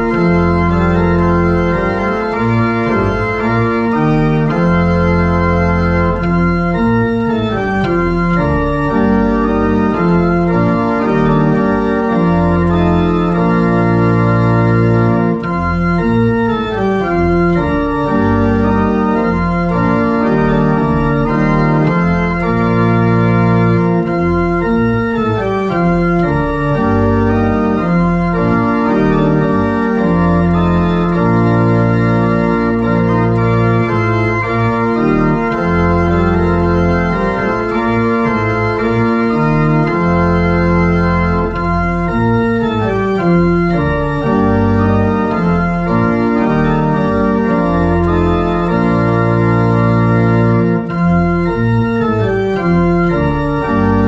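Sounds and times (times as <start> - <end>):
organ bass line: 0.0 - 54.0
organ chords: 0.0 - 54.0.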